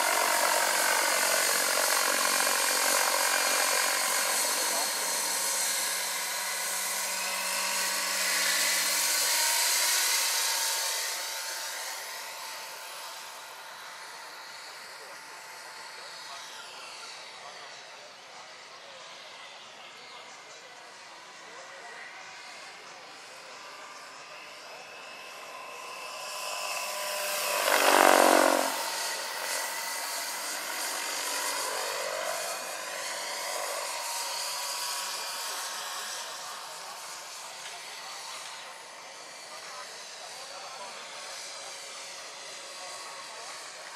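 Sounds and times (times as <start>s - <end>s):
model helicopter whining: 0.0s - 43.9s.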